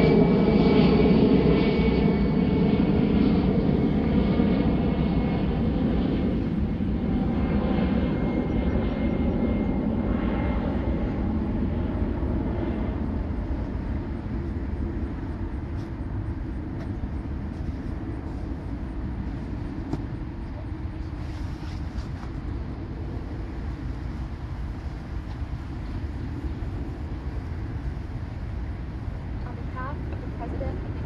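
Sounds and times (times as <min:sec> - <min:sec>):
airplane engine rumble: 0:00.0 - 0:31.0.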